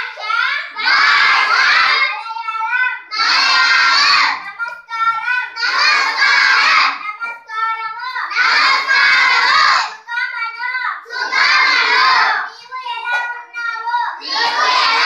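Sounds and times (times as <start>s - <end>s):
children shouting in unison: 0.0s - 4.5s, 5.2s - 7.0s, 8.2s - 10.2s, 11.0s - 15.0s
child reciting phrases: 0.0s - 15.0s.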